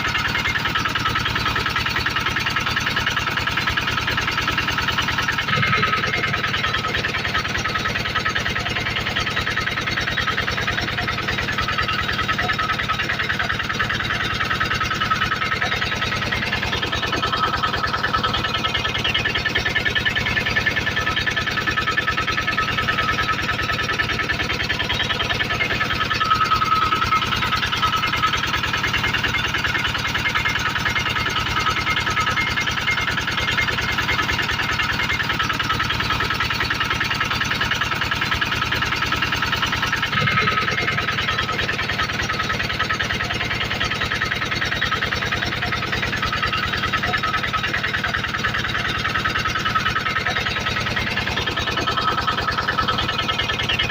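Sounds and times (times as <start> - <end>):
generator engine humming: 0.0 - 53.9.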